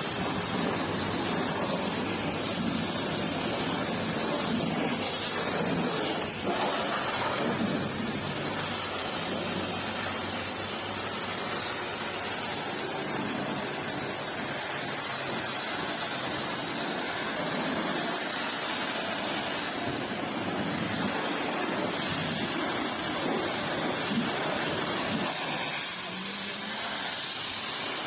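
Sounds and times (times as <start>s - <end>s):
pressure washer spraying: 0.0s - 28.0s.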